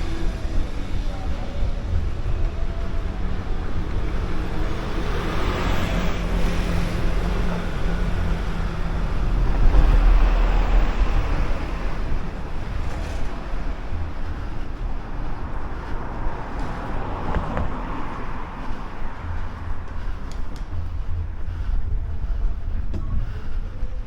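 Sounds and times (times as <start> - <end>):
road traffic rumble: 0.0 - 24.0
wind buffeting microphone: 0.0 - 24.0.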